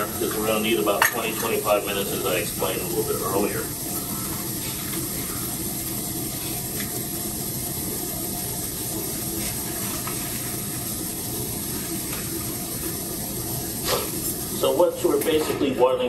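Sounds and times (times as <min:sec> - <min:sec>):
gas burner hiss: 0:00.0 - 0:16.0.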